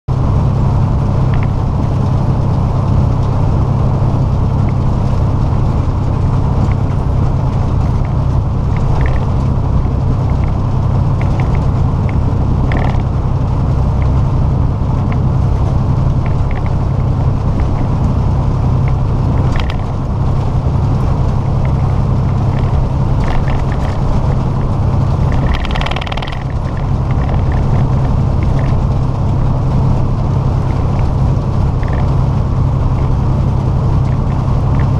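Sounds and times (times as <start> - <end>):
road rumble: 0.0 - 34.9
truck engine drone: 0.1 - 34.9
light clicks and rattles: 1.2 - 3.4, 4.1 - 34.9.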